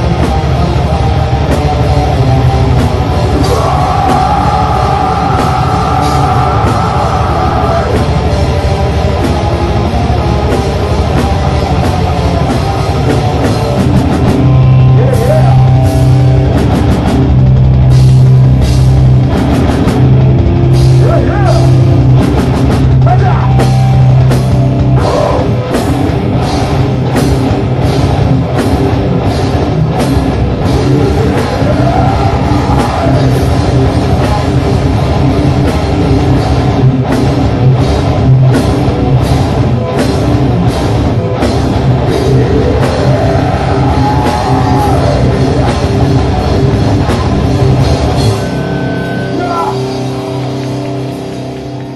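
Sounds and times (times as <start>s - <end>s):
bass guitar: 0.0s - 51.9s
distorted electric guitars: 0.0s - 51.9s
drum kit beat: 0.0s - 51.9s.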